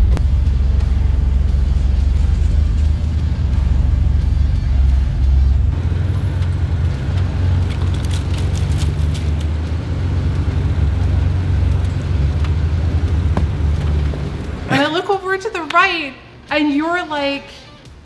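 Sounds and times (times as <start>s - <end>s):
engine running low: 0.0s - 15.1s.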